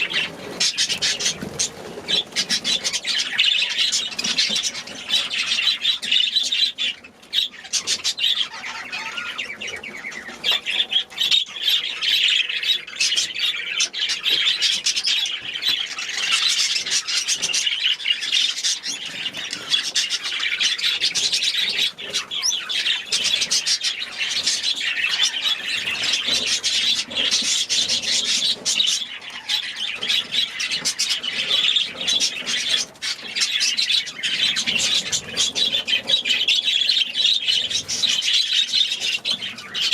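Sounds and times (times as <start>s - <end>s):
cage birds chattering and chirping: 0.0s - 39.9s.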